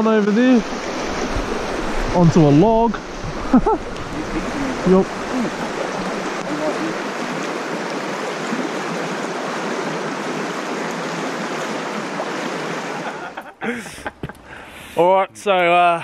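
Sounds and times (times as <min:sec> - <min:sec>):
river water rushing over riffle: 0:00.3 - 0:13.5.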